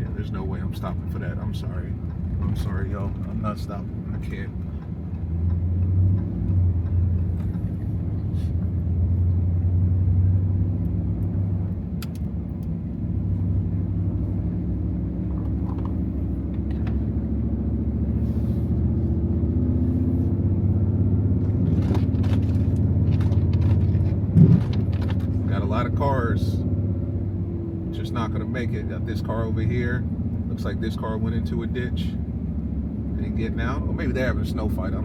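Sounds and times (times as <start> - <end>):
truck engine droning: 0.0 - 35.0.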